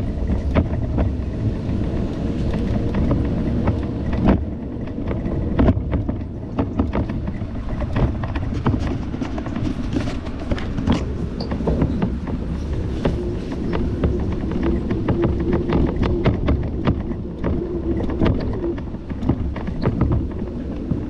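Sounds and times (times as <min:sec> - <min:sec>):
bicycle rumbling over rough path: 0:00.0 - 0:21.0
bike rattling clicks and knocks: 0:00.0 - 0:21.0
wind on microphone: 0:00.0 - 0:21.0.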